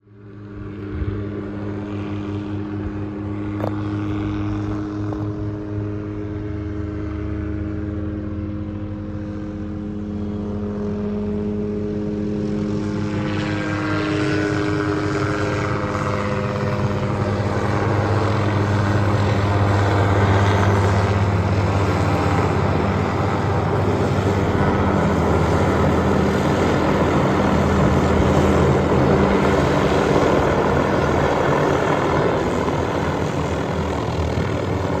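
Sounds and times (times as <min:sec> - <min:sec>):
helicopter rotor beat: 0:00.0 - 0:35.0
helicopter turbine whine: 0:00.0 - 0:35.0.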